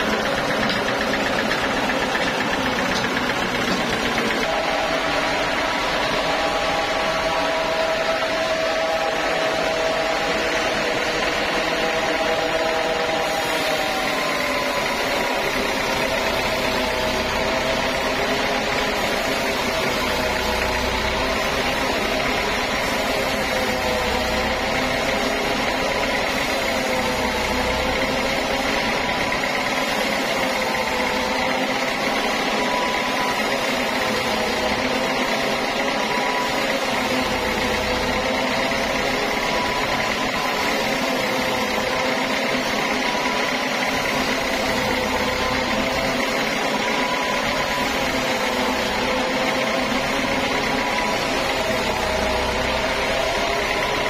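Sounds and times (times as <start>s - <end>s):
band saw whining through log: 0.0s - 54.0s.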